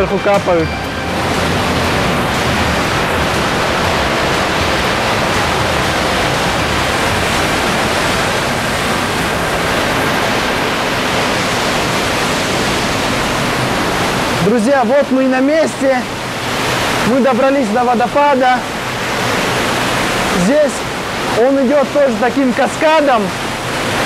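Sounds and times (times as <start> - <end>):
stream running: 0.0 - 24.0
waterfall rushing: 0.0 - 24.0.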